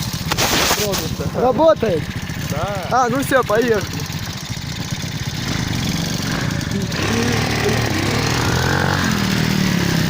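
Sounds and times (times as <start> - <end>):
motorcycle engine pulling away: 0.0 - 10.0.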